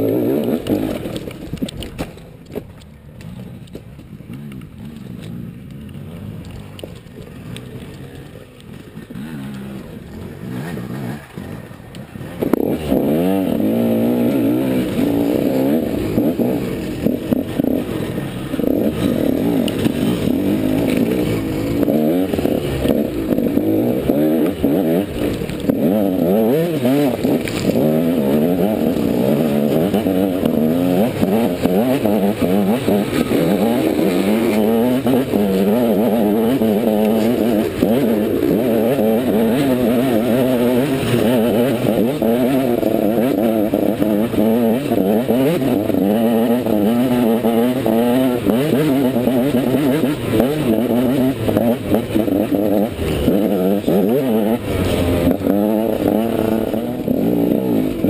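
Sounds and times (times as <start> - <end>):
dirt bike engine revving: 0.0 - 1.8, 3.2 - 58.0.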